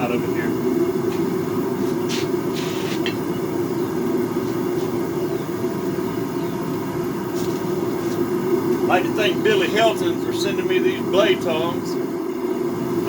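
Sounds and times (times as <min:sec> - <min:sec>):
forge roaring: 0:00.0 - 0:13.0.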